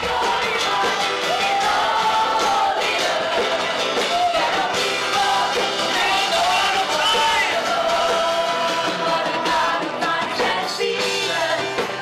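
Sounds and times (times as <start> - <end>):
group singing worship music: 0.0 - 12.0.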